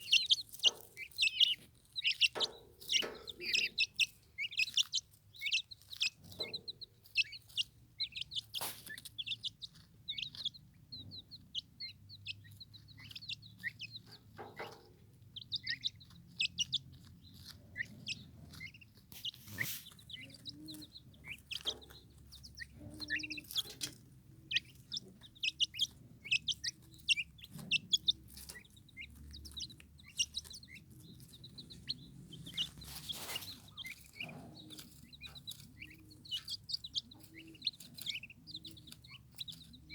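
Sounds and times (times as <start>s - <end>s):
turkey poults peeping: 0.0s - 39.9s.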